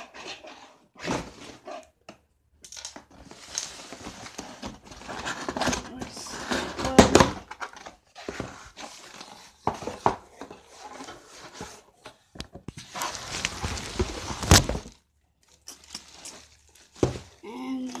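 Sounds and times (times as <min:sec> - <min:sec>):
cardboard rustling and scraping: 0:00.0 - 0:02.0, 0:03.0 - 0:15.0, 0:15.8 - 0:17.4.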